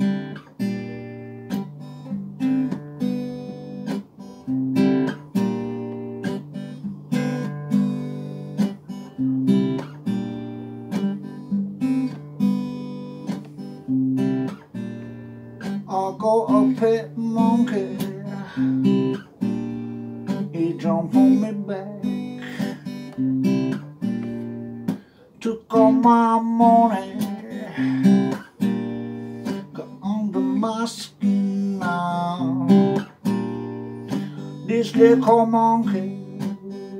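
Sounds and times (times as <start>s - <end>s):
acoustic guitar strumming: 0.0s - 36.9s.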